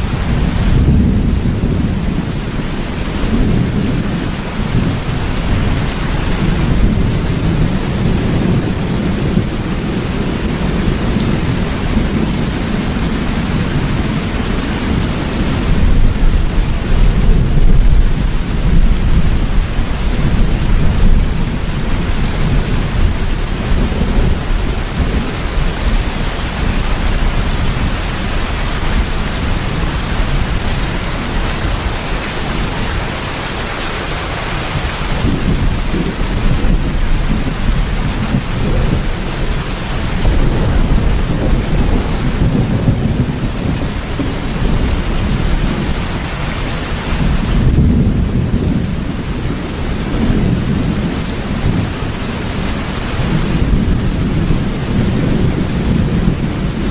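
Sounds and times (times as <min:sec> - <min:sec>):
low rumble of thunder: 0:00.0 - 0:33.3, 0:34.7 - 0:56.9
heavy rain hissing: 0:00.0 - 0:56.9.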